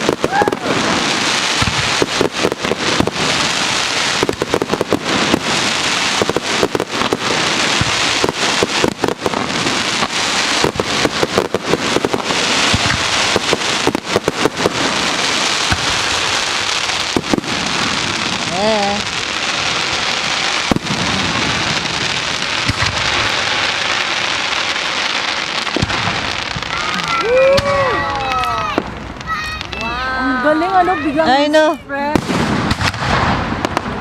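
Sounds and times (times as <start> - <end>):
fireworks crackling and bangs: 0.0 - 34.0.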